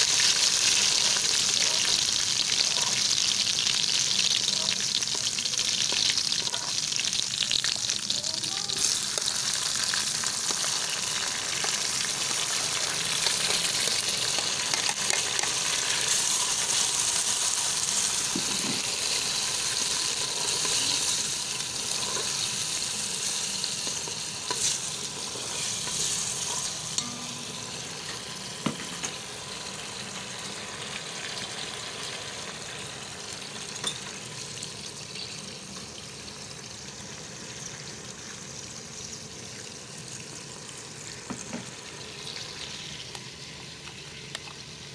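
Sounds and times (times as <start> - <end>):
hot oil sizzling in a pot: 0.0 - 44.9.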